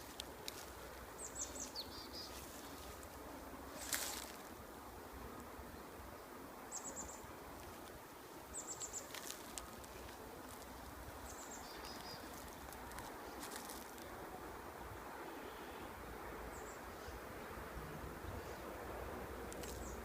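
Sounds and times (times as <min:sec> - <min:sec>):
low background hiss: 0:00.0 - 0:20.0.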